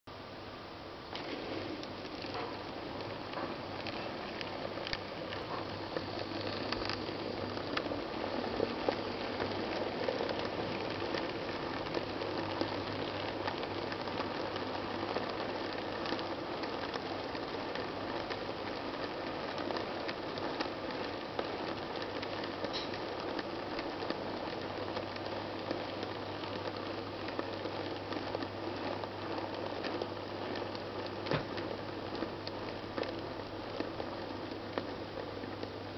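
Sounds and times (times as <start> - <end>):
model train rattling whir: 1.1 - 35.7
wheels clicking on track: 1.1 - 35.9.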